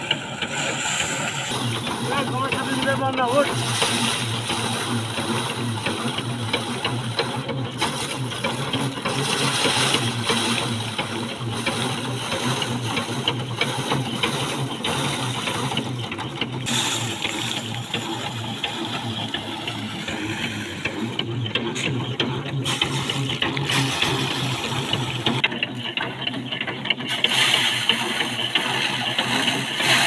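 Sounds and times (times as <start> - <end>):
thresher whirring: 0.0 - 30.0.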